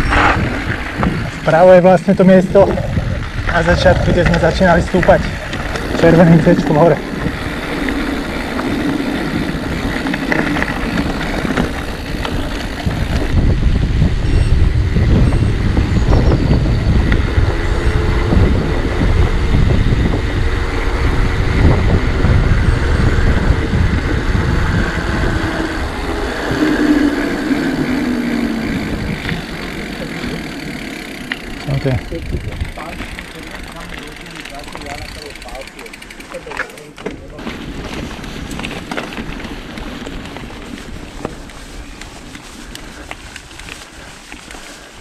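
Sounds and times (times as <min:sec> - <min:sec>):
wind rushing over microphone: 0:00.0 - 0:34.1, 0:37.1 - 0:45.0
bike tyre rumble: 0:00.0 - 0:45.0.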